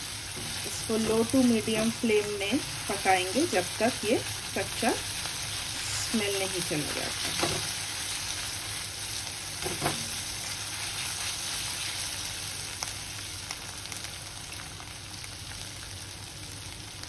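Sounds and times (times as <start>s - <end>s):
paste sizzling in hot oil: 0.0s - 15.4s.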